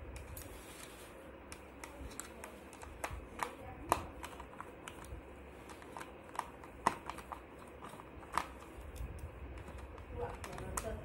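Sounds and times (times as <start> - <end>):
screwdriver clicking on plastic: 1.5 - 11.0.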